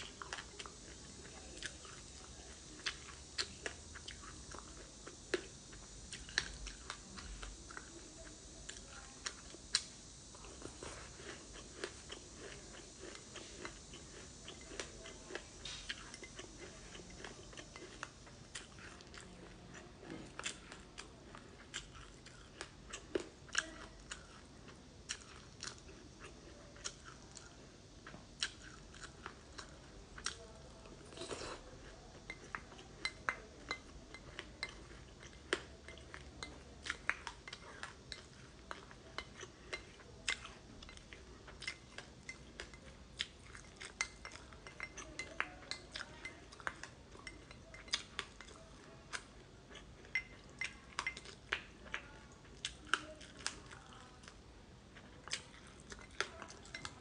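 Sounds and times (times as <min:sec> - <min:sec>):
chewing crunchy seeds: 0:00.0 - 0:57.0.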